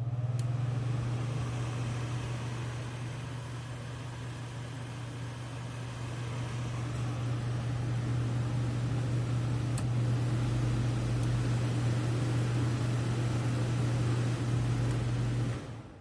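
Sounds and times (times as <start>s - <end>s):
air conditioner fan rushing air: 0.0s - 16.0s
low electrical hum: 0.0s - 16.0s.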